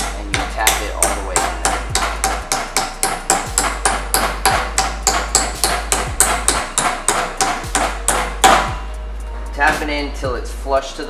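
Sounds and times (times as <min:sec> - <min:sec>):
hammer tapping metal: 0:00.0 - 0:09.0.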